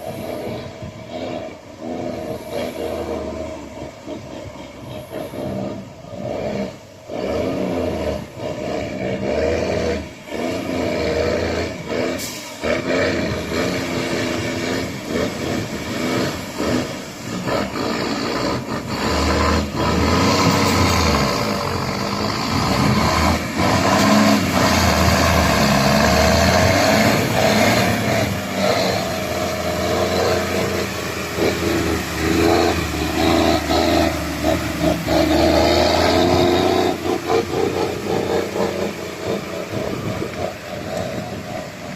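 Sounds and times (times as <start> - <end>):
truck engine revving under load: 0.0 - 41.9.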